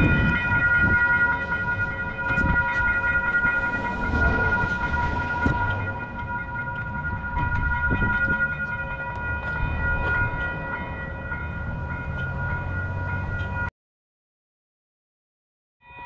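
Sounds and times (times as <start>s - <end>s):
high multi-tone ringing: 0.0s - 13.7s
train rumbling past: 0.0s - 13.7s.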